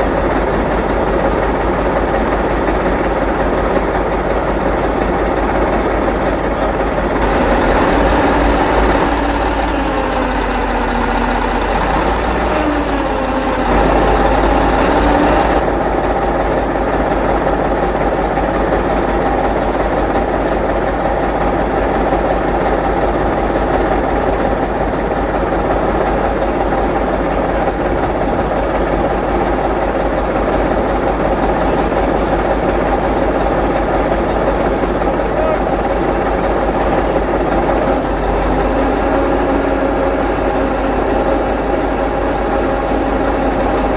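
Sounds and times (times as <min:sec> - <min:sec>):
large truck engine running: 0:00.0 - 0:43.9.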